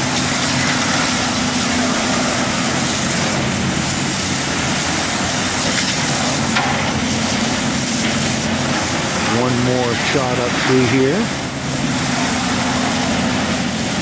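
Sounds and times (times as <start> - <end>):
hose spraying water on metal: 0.0 - 14.0
truck engine humming: 0.0 - 14.0.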